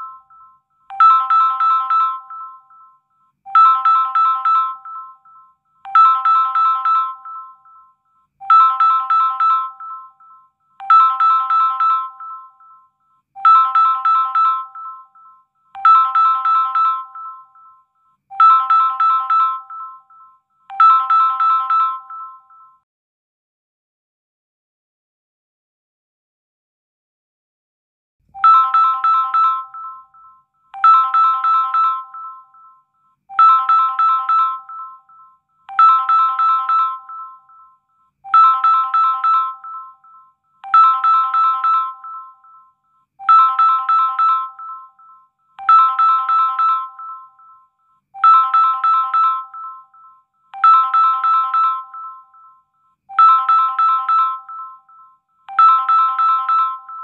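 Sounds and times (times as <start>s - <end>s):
phone ringtone: 0.0s - 22.9s, 28.3s - 57.0s.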